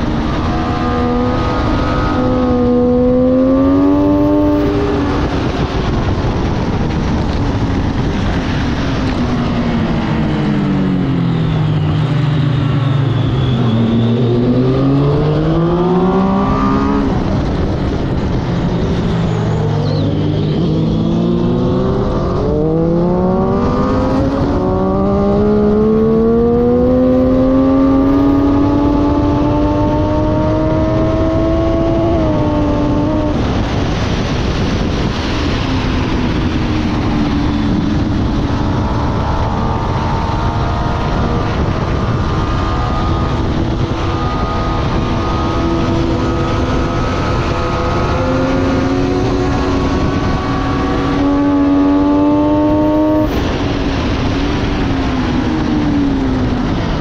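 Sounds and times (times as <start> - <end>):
motorcycle engine racing: 0.0 - 57.0
steady rushing noise: 0.0 - 57.0.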